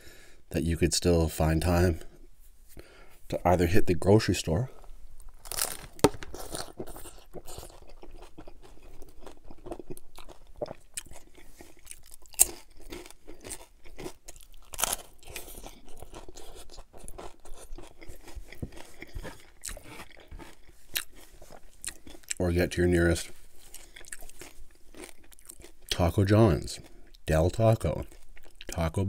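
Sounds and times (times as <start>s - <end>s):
crunching and chewing taco: 4.7s - 29.0s.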